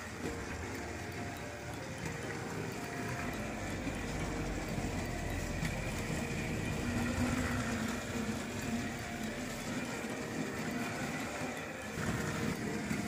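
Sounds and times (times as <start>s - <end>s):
toy train motor whirring: 0.0s - 13.0s
wheels clicking on plastic track: 0.0s - 13.0s.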